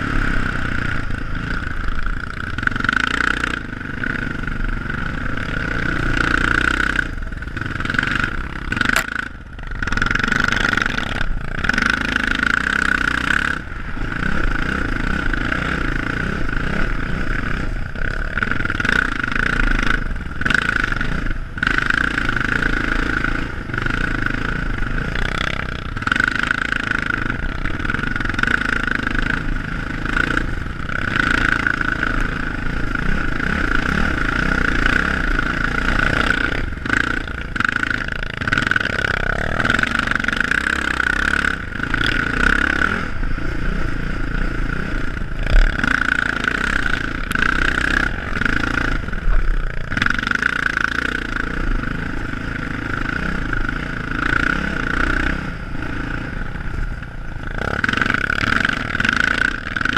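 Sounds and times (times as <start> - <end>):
atv engine under throttle: 0.0 - 59.9.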